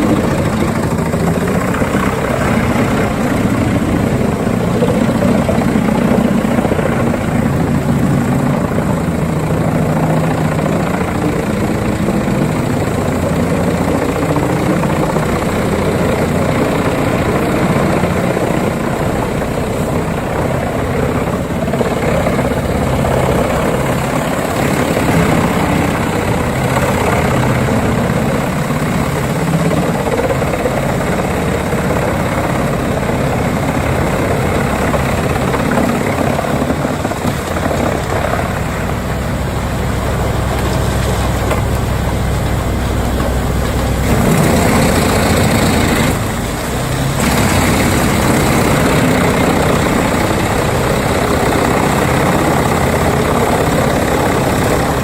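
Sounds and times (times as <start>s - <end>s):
wood chipper engine drone: 0.0s - 55.0s.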